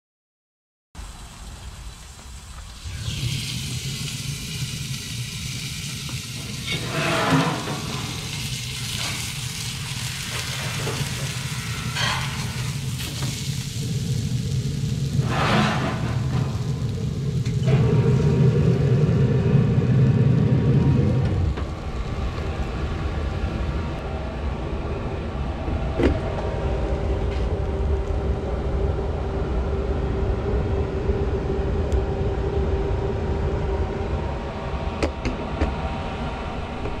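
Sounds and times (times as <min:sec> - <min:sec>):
fan hum: 0:01.0 - 0:37.0
grill low rumble: 0:01.0 - 0:37.0.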